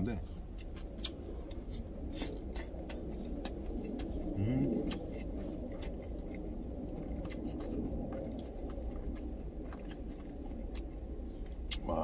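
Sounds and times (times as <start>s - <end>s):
low steady hum: 0.0s - 12.0s
close-up chewing: 0.2s - 12.0s.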